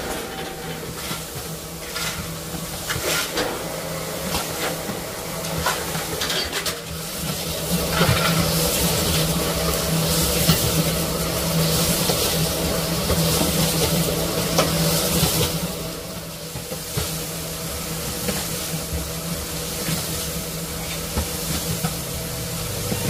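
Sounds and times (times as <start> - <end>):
food sizzling in a pan: 0.1 - 23.0.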